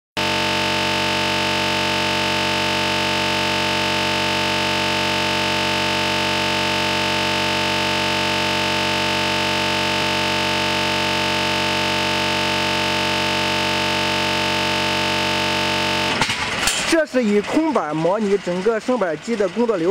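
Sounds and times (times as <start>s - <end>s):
electronic buzzing drone: 0.2s - 16.6s.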